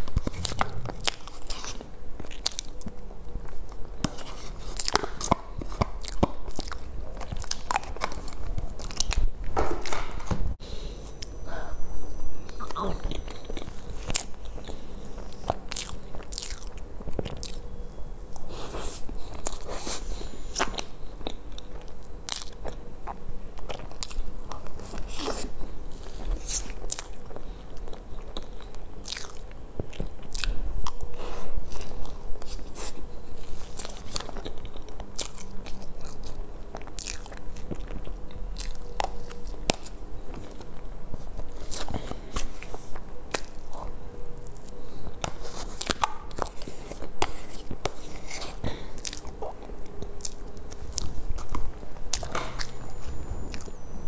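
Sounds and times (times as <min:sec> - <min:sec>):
chewing and mouth clicks: 0:00.0 - 0:09.3, 0:12.5 - 0:17.7, 0:18.3 - 0:53.8.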